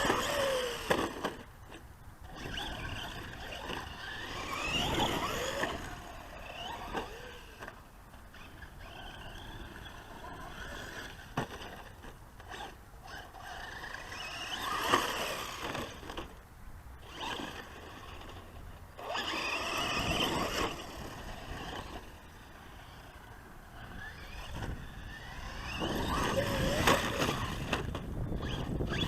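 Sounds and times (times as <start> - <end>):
electric motor whining: 0.0 - 1.5, 2.3 - 16.4, 17.0 - 29.0.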